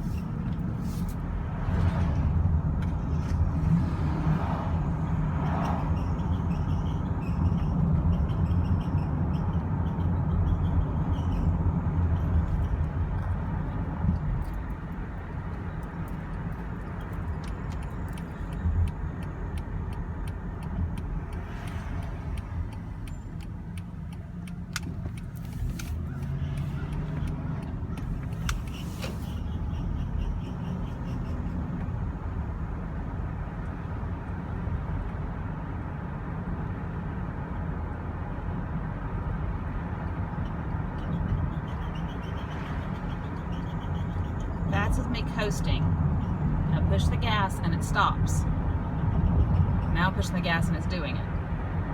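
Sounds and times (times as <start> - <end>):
road and engine rumble: 0.0 - 51.9.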